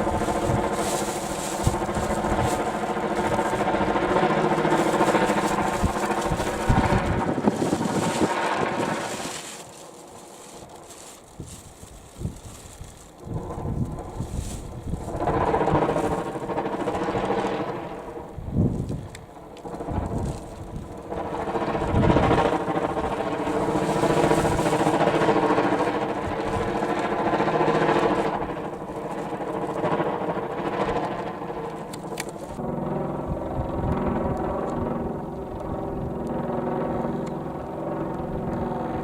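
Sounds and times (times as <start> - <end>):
kite buzzing in wind: 0.0 - 39.0.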